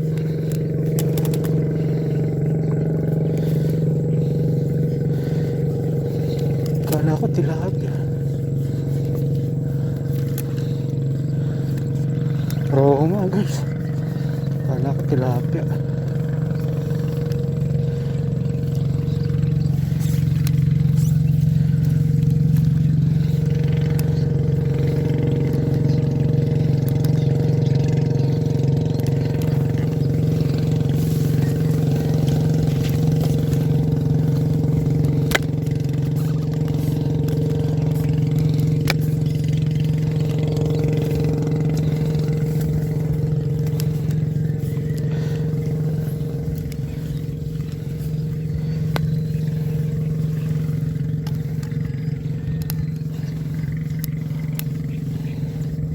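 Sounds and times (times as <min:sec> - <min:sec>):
sharp clicks: 0:00.0 - 0:55.8
small engine running: 0:00.0 - 0:55.9.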